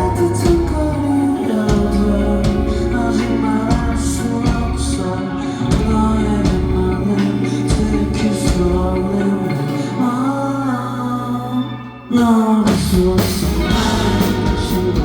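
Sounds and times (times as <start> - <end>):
live rock band: 0.0 - 15.0
person singing: 0.0 - 15.0.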